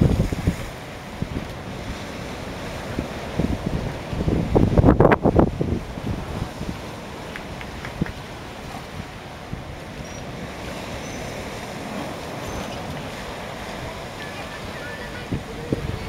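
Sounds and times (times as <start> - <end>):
sea water washing: 0.0 - 16.0
wind on microphone: 0.0 - 16.0.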